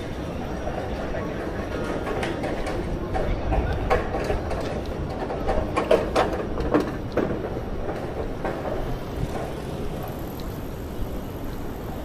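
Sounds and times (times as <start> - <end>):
passing vehicles rumbling: 0.0 - 12.0.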